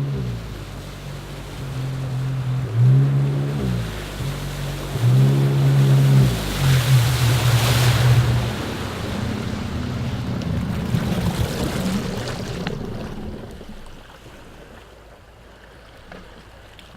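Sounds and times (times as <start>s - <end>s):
jet ski engine running: 0.0s - 16.9s
water splashing: 0.0s - 16.9s.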